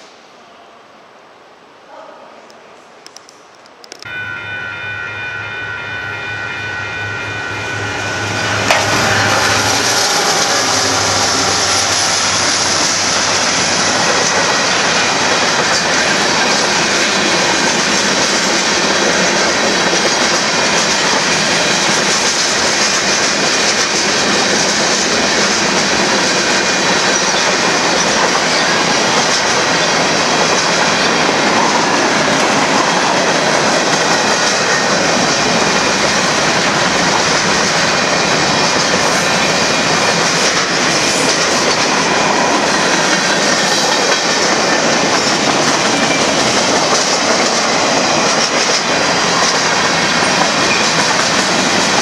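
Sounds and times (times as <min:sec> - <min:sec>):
diesel locomotive passing: 0:04.1 - 0:52.0.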